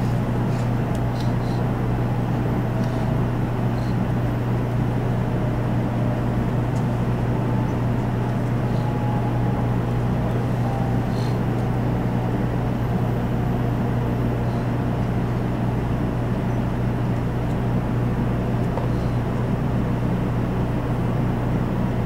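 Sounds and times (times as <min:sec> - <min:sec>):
rumble and hiss of rails: 0:00.0 - 0:22.0
train cabin low hum: 0:00.0 - 0:22.0.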